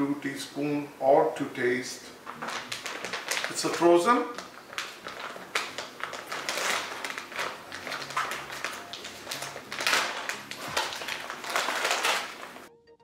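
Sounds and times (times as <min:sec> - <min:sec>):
plastic bag crinkling: 0:02.1 - 0:12.7.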